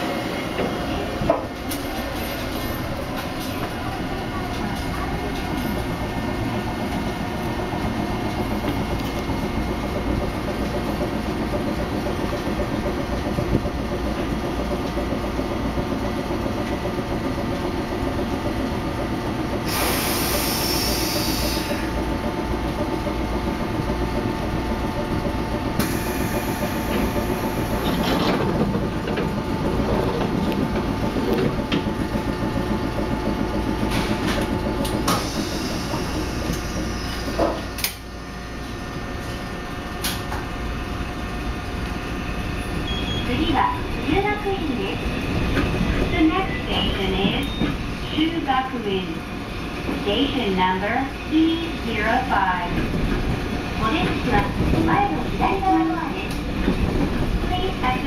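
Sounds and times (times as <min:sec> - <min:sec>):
train machinery humming: 0:00.0 - 0:58.0.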